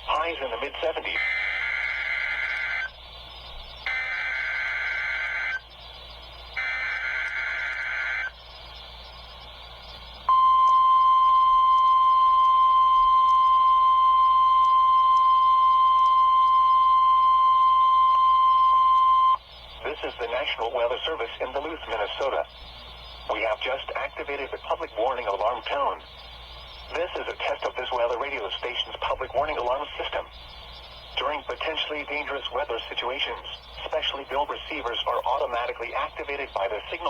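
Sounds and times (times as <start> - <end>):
digital data bursts: 0.0 - 37.0
steady warning alarm tone: 0.0 - 37.0.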